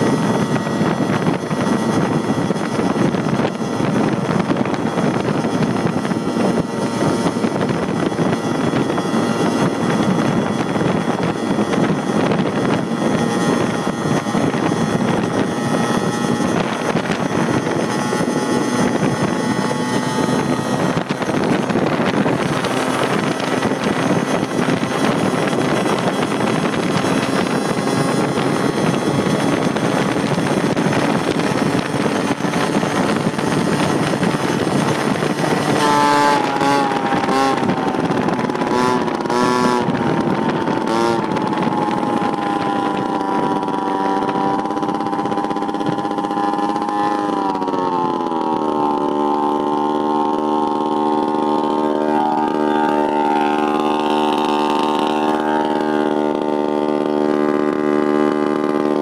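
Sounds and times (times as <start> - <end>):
moped engine running: 0.0 - 59.0
wind noise: 0.0 - 59.0.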